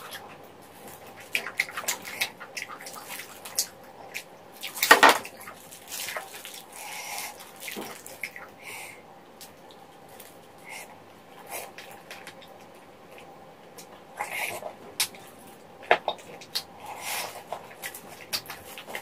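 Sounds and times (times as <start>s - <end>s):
chewing and lip-smacking: 0.0s - 8.7s, 9.4s - 19.0s.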